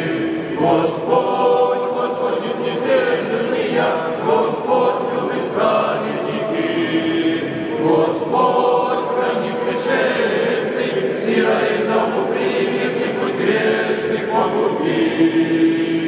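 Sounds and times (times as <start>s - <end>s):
choir chanting a cappella: 0.0s - 16.0s.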